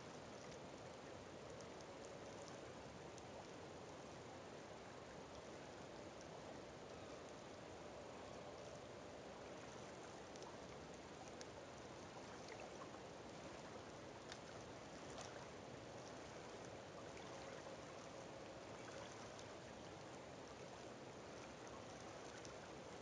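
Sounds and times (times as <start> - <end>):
small ticks and drips: 0.0 - 23.0.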